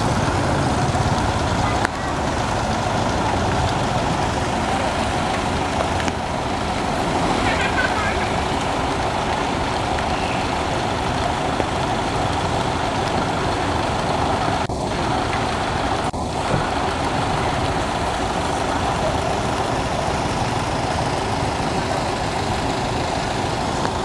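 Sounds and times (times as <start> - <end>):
rain hissing on stone and water: 0.0 - 24.0.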